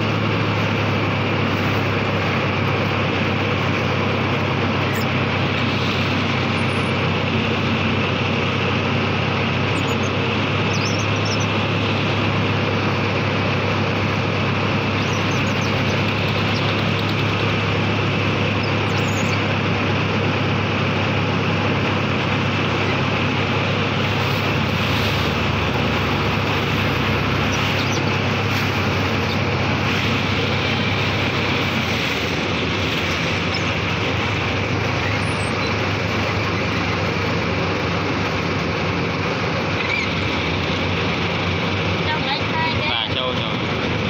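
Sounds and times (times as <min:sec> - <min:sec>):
boat motor running: 0:00.0 - 0:44.0.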